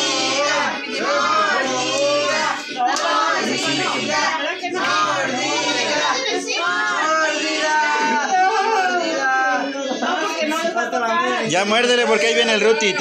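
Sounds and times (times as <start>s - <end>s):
people singing a birthday song: 0.0s - 13.0s.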